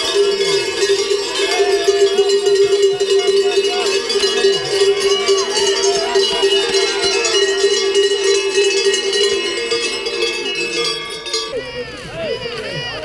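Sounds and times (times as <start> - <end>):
cowbells clanging: 0.0 - 13.0
spectators cheering: 0.0 - 13.0.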